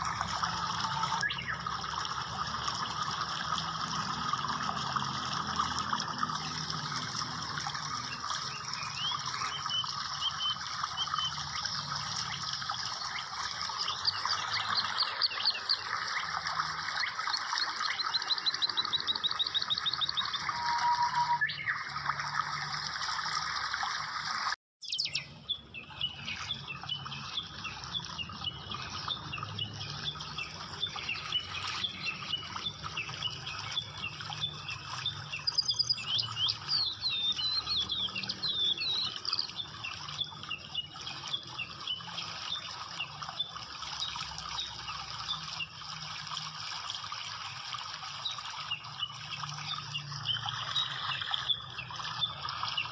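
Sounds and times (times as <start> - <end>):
birds chirping and trilling: 0.0 - 22.9, 24.8 - 46.5, 47.3 - 52.9
water rushing: 0.0 - 52.9.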